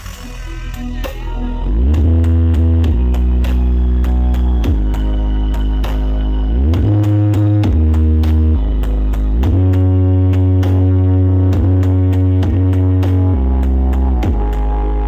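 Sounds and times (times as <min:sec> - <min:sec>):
deep sliding bass notes: 0:00.0 - 0:15.0.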